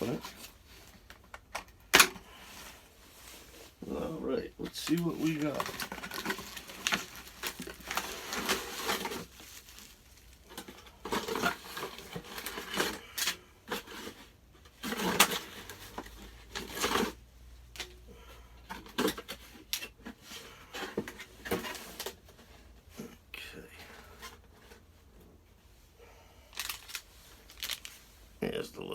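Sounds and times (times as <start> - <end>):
cardboard and plastic packaging rustling: 0.0 - 25.8, 26.4 - 28.4.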